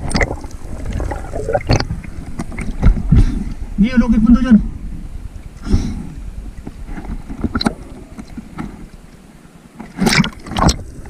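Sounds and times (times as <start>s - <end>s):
water sloshing and splashing: 0.0s - 3.8s, 4.9s - 11.0s.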